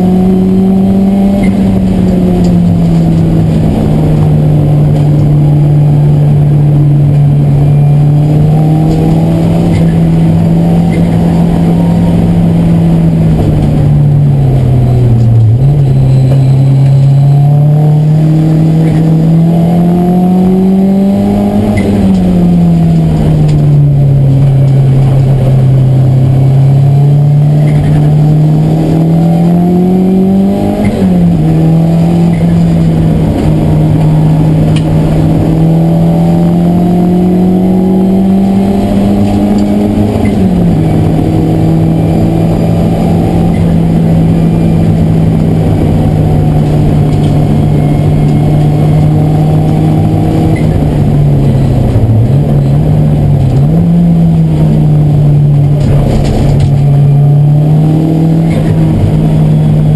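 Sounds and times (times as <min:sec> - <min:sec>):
race car engine under load: 0:00.0 - 0:59.9
road and tyre noise: 0:00.0 - 0:59.9.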